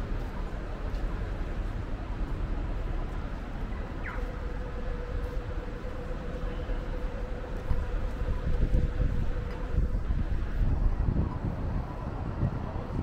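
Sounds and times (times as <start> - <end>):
city background rumble: 0.0 - 13.0
steady hum: 0.0 - 13.0.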